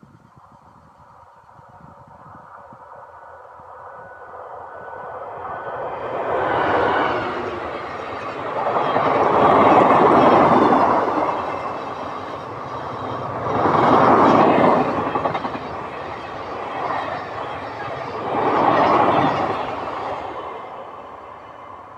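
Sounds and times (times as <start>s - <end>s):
train wheels rumbling on rails: 3.6s - 21.9s.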